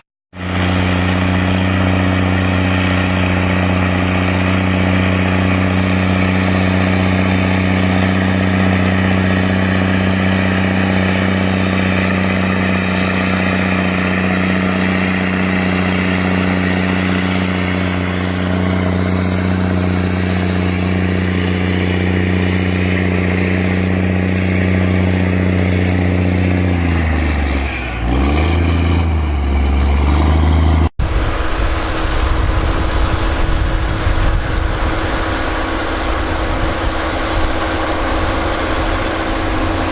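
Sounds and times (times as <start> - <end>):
rough engine noise: 0.0 - 39.9
large machine engine running: 0.3 - 39.9.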